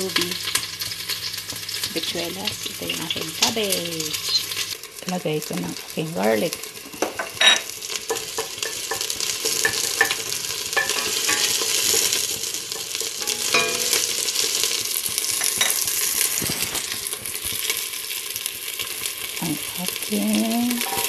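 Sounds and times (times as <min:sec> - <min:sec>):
onion and garlic sizzling in oil: 0:00.0 - 0:21.0.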